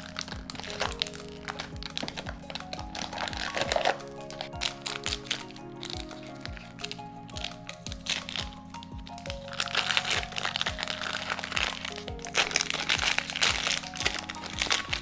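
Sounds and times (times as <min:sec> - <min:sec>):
background music with beat: 0:00.0 - 0:15.0
foil wrappers crinkling: 0:00.0 - 0:15.0.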